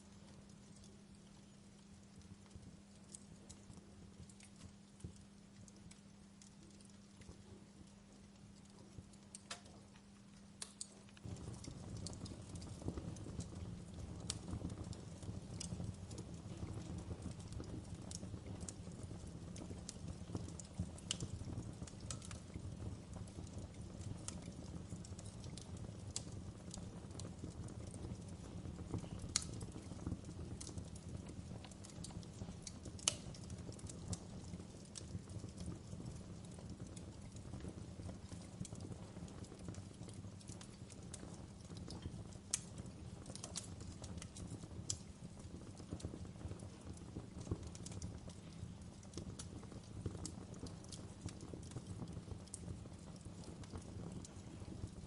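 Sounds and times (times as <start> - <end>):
fire crackles and pops: 0.0 - 55.0
low fire rumble: 0.0 - 55.0.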